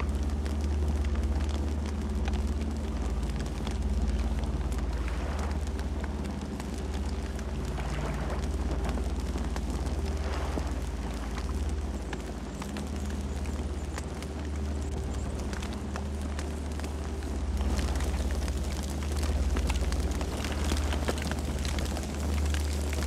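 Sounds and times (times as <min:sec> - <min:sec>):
campfire crackling and popping: 0:00.0 - 0:23.0
low rumble: 0:00.0 - 0:23.0.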